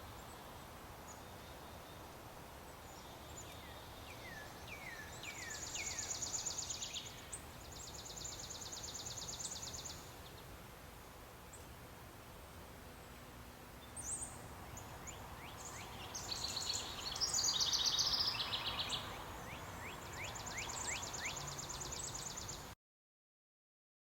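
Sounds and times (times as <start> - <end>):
outdoor background hiss: 0.0 - 22.8
songbirds calling: 1.1 - 10.6, 11.3 - 22.7.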